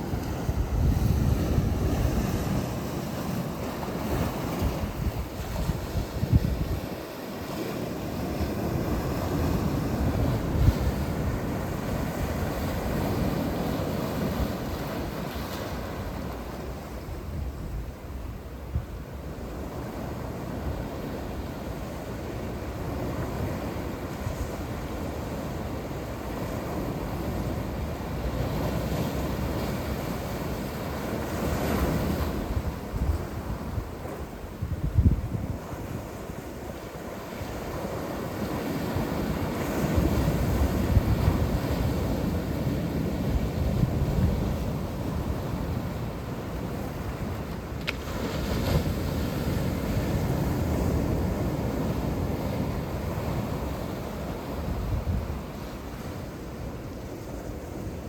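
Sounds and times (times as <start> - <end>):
sea waves breaking: 0.0 - 58.0
wind buffeting the microphone: 0.0 - 58.0.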